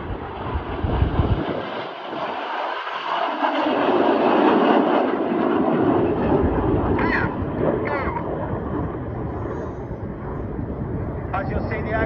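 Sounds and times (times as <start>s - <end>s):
jet aircraft roar overhead: 0.0s - 12.0s.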